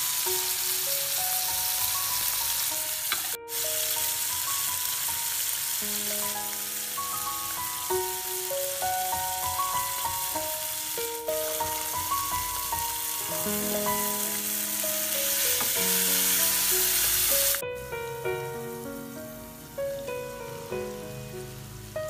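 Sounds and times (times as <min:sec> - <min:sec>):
background music: 0:00.0 - 0:22.0
food sizzling in hot oil: 0:00.0 - 0:22.0.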